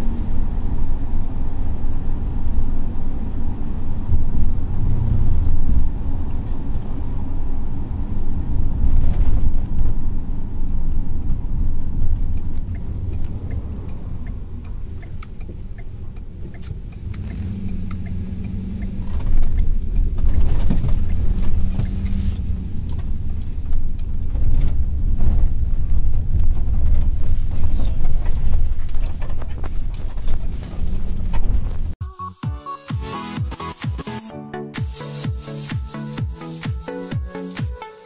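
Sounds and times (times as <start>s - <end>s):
vehicle rumble from inside cabin: 0.0s - 32.0s.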